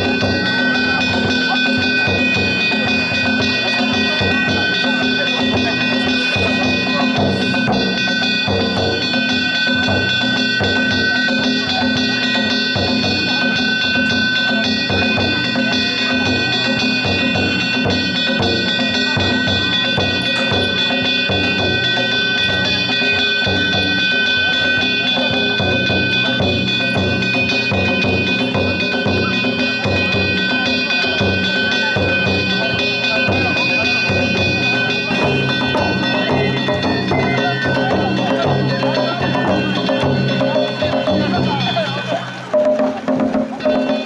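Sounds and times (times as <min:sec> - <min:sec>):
metal gongs ringing: 0:00.0 - 0:44.0
taiko drums beating: 0:00.0 - 0:44.0.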